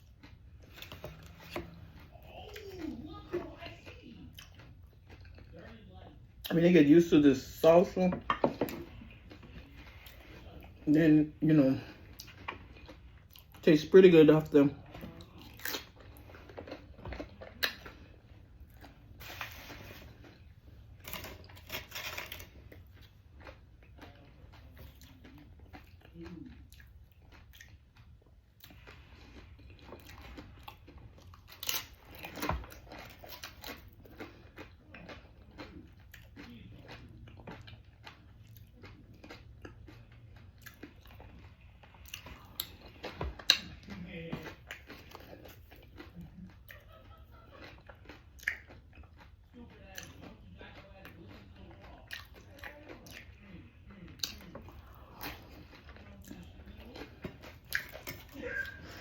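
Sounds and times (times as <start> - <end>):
chewing crunchy food: 0.0 - 59.0.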